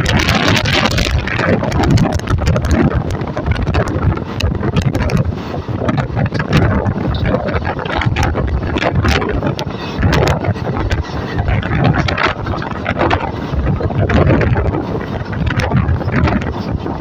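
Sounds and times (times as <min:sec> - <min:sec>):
train rumbling and rattling: 0:00.0 - 0:17.0
wind buffeting microphone: 0:00.0 - 0:17.0.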